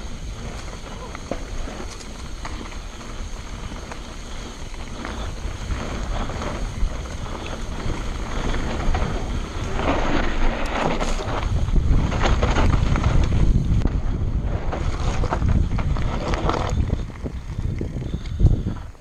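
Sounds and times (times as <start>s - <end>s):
bike clicks and rattles: 0.0s - 19.0s
bike tyres rolling on dirt: 0.0s - 19.0s
wind buffeting microphone: 0.0s - 19.0s.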